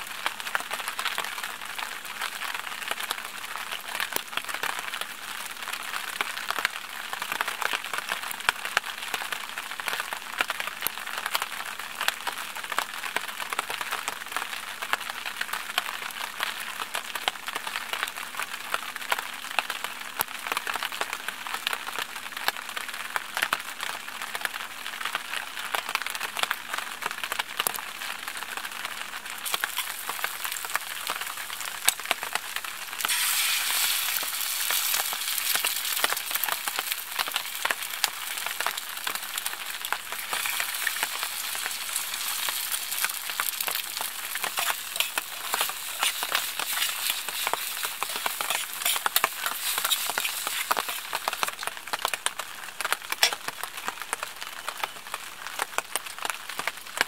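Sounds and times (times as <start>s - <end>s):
food frying in a skillet: 0.0s - 57.0s.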